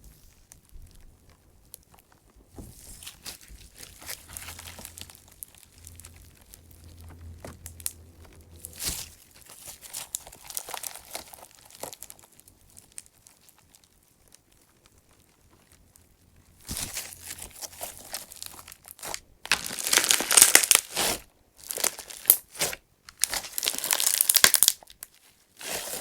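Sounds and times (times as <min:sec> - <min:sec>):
clay chips crackling in slime: 0:00.5 - 0:26.0.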